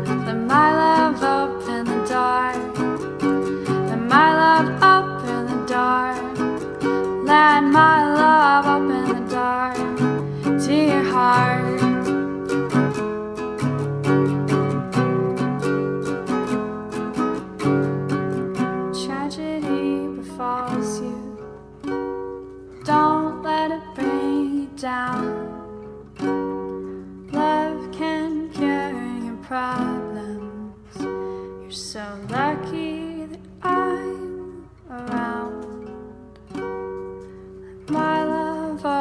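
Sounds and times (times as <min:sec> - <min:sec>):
pop song with plucked acoustic strings: 0:00.0 - 0:39.0.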